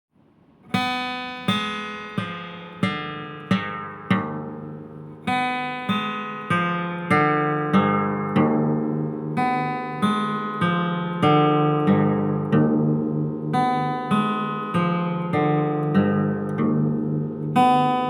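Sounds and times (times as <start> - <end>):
guitar strumming chords: 0.7 - 18.0.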